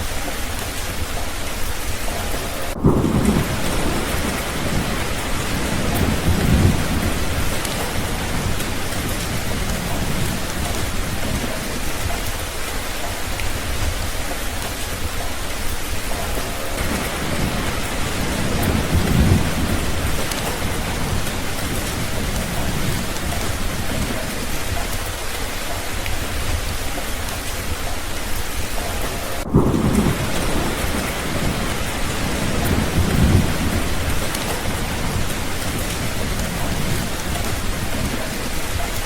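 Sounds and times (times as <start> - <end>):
steady rain: 0.0 - 39.0
low rolls of thunder: 0.3 - 39.0.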